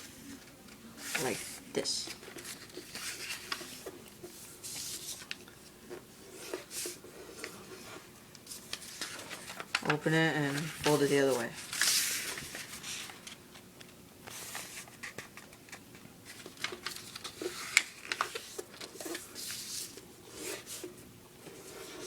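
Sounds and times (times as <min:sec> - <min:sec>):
paper rustling and folding: 0:00.0 - 0:22.0.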